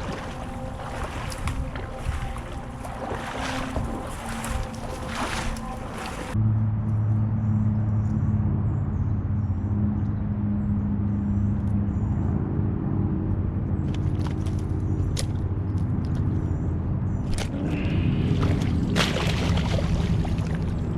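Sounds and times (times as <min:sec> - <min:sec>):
engine running steadily: 0:00.0 - 0:20.9.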